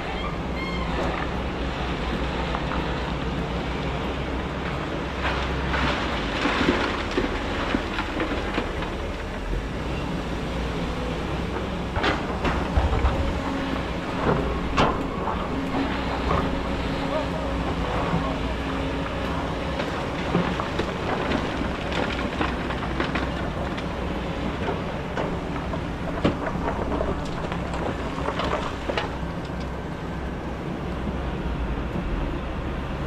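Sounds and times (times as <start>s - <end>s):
excavator diesel engine: 0.0s - 33.0s.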